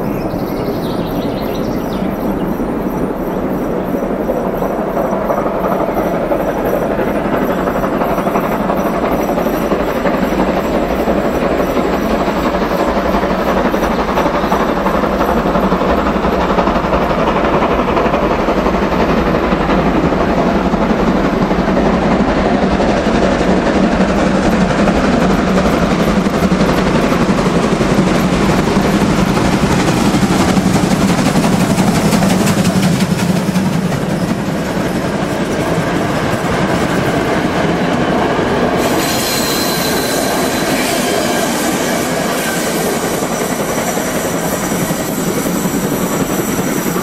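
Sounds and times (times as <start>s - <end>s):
steam locomotive chuffing: 0.0s - 47.0s.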